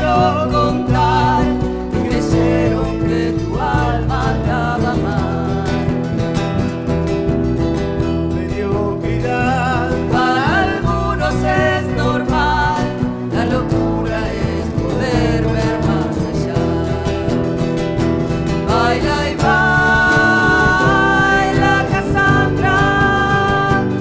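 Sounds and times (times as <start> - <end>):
live folk band with guitars: 0.0 - 24.0.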